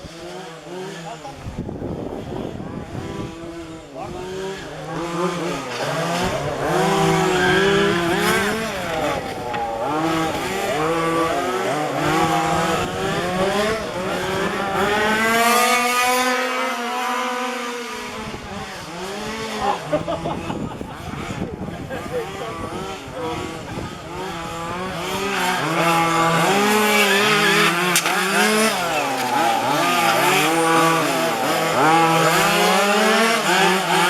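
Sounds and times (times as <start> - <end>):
rc car two-stroke engines: 0.0 - 34.0.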